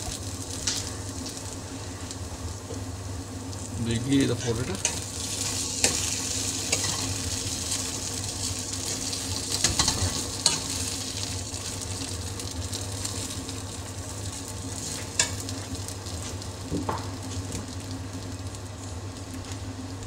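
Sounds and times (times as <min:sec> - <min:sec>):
frying sizzle: 0:00.0 - 0:20.0.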